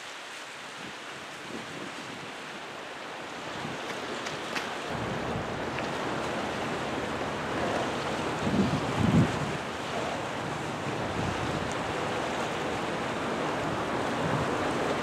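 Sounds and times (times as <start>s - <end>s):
harbour water lapping: 0.0s - 15.0s
wind: 0.0s - 15.0s.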